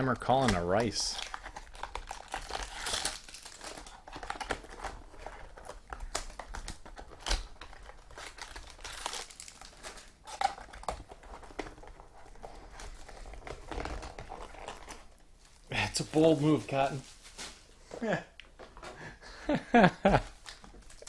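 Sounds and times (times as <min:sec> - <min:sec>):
plastic packaging crinkling: 0:00.2 - 0:17.7, 0:20.1 - 0:21.0.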